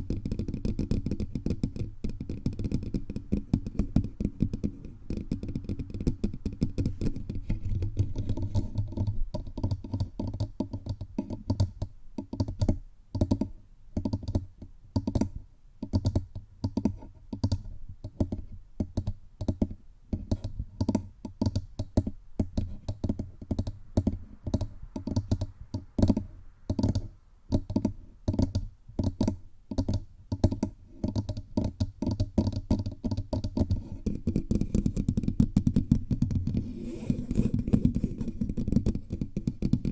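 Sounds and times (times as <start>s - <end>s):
fingertips tapping on microphone: 0.0s - 39.9s.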